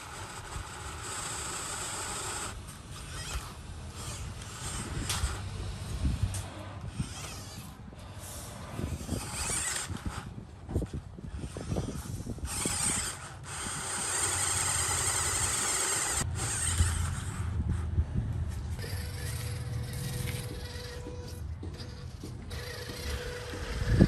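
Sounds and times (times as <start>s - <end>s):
toy truck motor whirring: 0.0s - 18.0s, 18.7s - 24.0s.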